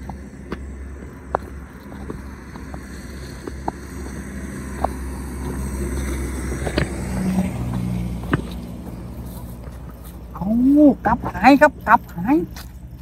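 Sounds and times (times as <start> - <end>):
footsteps on dirt: 0.0 - 13.0
steady low rumble: 0.0 - 13.0.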